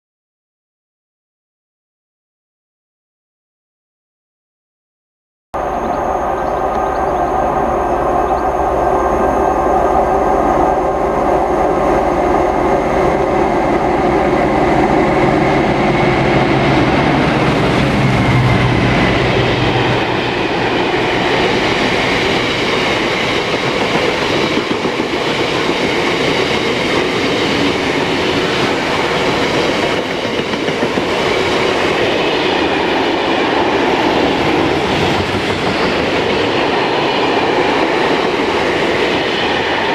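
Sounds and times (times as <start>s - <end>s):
locomotive engine drone: 5.6s - 39.9s.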